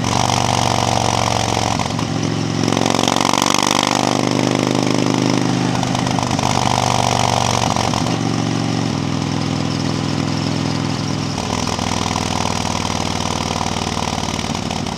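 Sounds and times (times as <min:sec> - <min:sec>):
motorcycle engine cruising: 0:00.0 - 0:14.9.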